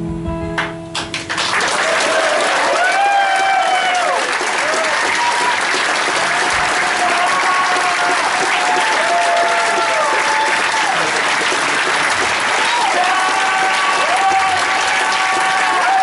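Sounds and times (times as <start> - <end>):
audience applauding: 1.0 - 16.0
crowd cheering: 1.1 - 16.0.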